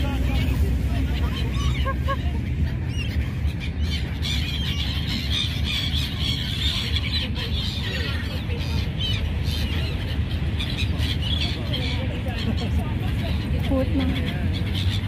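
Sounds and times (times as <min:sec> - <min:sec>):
gulls squawking: 0:00.0 - 0:15.0
low background rumble: 0:00.0 - 0:15.0.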